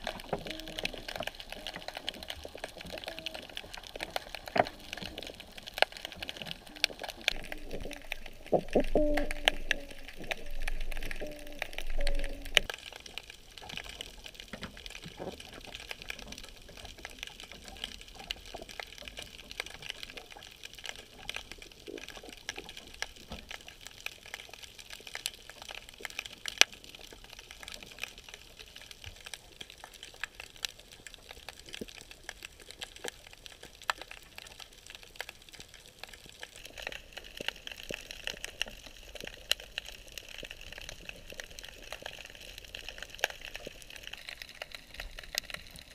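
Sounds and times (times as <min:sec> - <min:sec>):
sharp clicks and crackles: 0:00.0 - 0:45.9.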